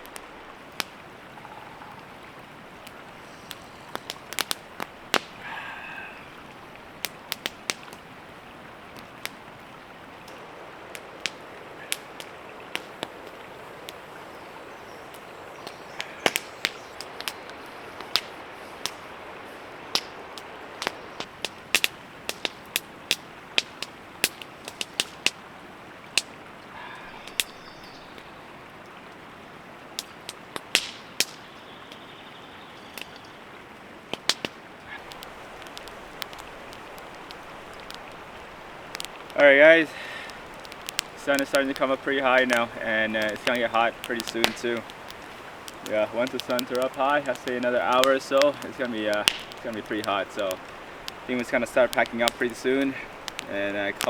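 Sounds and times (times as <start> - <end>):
bird calls: 0.0 - 25.4, 26.6 - 28.8, 30.8 - 33.6, 34.8 - 54.0
sharp cracks and pops: 0.0 - 25.5, 26.1 - 28.4, 30.0 - 32.1, 32.8 - 33.4, 34.1 - 54.0
steady hiss: 0.0 - 28.6, 34.3 - 54.0.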